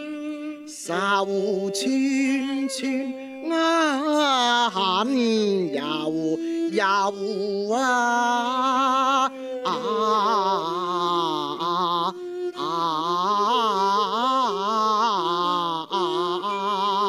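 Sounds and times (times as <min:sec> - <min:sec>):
bowed two-string fiddle: 0:00.0 - 0:17.0
man singing opera with vibrato: 0:00.0 - 0:17.0.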